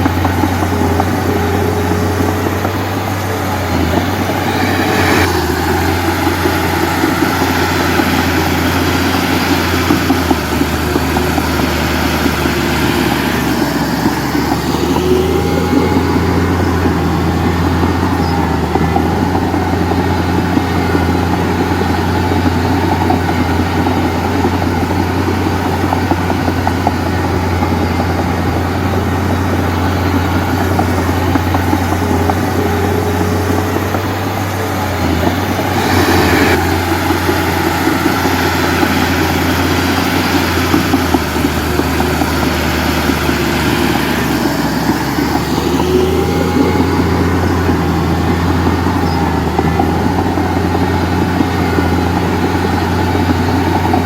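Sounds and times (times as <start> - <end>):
dense rattling: 0.0 - 54.0
diesel engine drone: 0.0 - 54.0
sliding high tones: 0.0 - 54.0.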